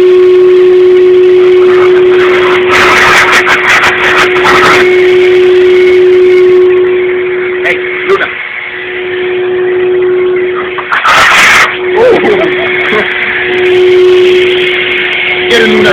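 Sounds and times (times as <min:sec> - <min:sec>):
choppy rushing noise: 0:01.7 - 0:15.9.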